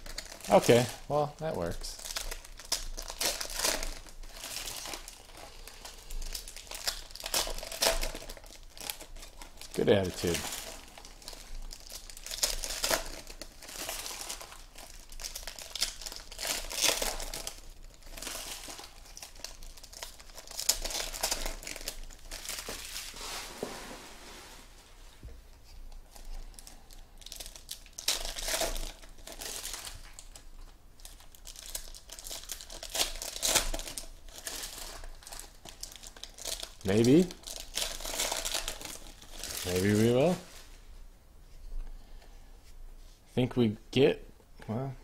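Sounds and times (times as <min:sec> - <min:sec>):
foil wrappers crinkling and tearing: 0:00.0 - 0:23.4, 0:25.8 - 0:40.8.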